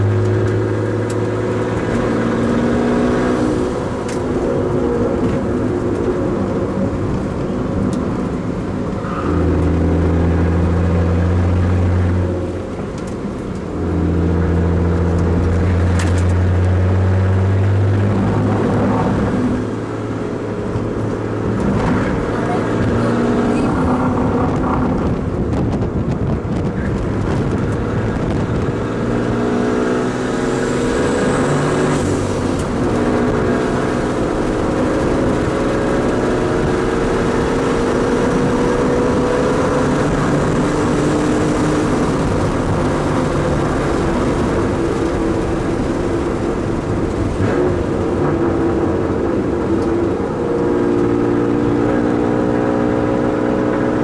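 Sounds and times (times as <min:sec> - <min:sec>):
car engine revving: 0:00.0 - 0:54.0
road and tyre noise: 0:00.0 - 0:54.0.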